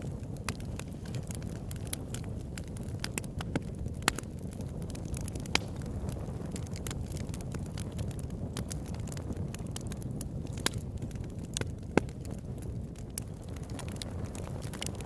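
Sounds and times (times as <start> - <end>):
campfire low rumble: 0.0 - 15.0
wood crackling and popping: 0.0 - 15.0.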